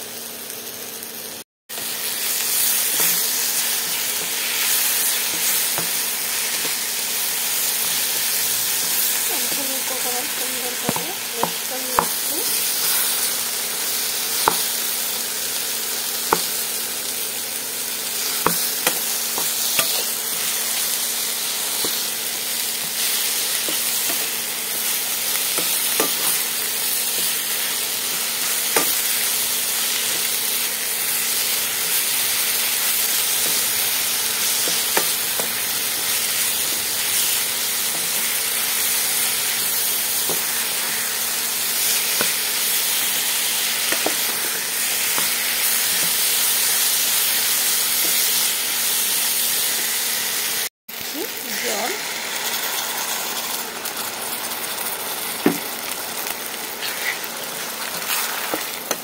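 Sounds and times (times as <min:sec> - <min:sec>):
chutney sizzling in a pan: 0:00.0 - 0:59.0.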